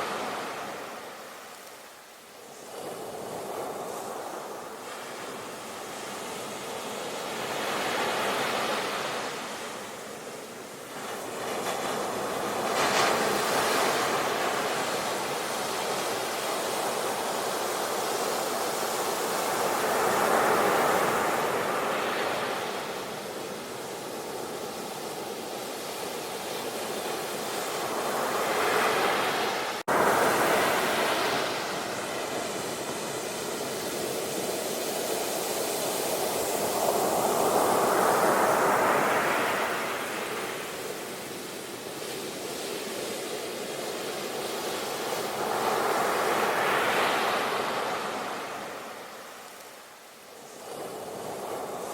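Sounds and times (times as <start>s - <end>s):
sea waves breaking on shore: 0.0s - 51.9s.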